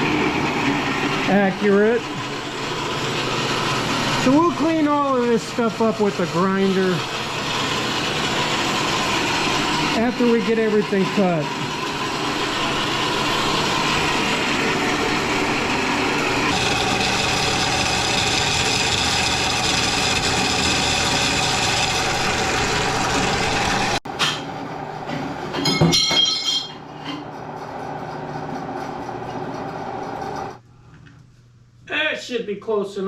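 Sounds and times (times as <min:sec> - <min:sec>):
metal bandsaw whine: 0:00.0 - 0:30.6.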